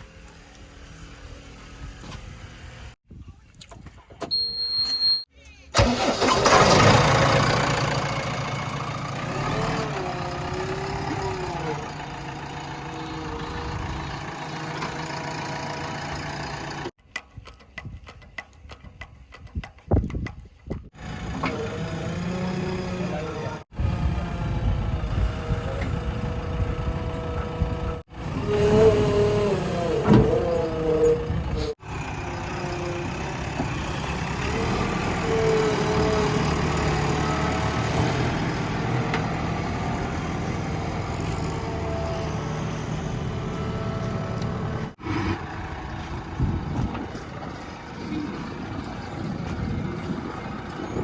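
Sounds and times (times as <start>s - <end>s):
diesel engines running: 0.0s - 3.0s, 5.8s - 17.0s, 20.9s - 51.0s.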